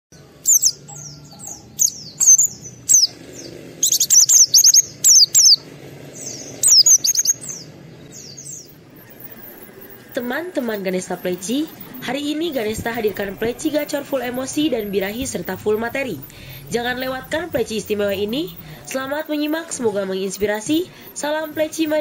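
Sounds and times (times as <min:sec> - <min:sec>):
bird singing high chirps: 0:00.2 - 0:22.0.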